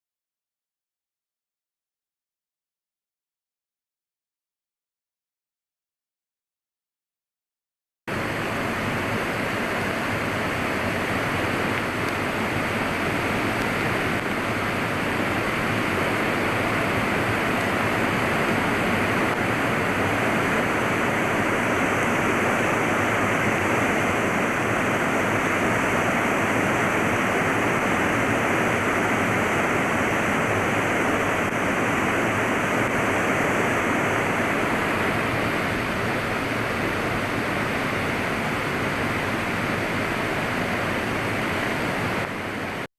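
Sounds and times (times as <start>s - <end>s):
fast-flowing water rushing: 8.1s - 42.9s.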